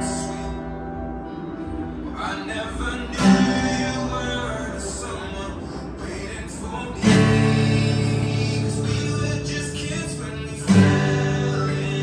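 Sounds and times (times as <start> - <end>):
acoustic guitar chord strum: 0.0 - 12.0.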